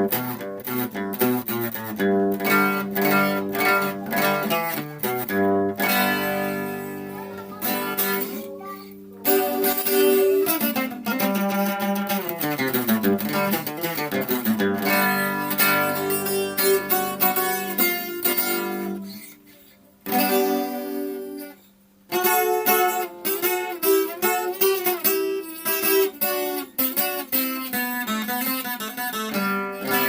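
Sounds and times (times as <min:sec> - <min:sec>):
acoustic guitar: 0:00.0 - 0:30.0.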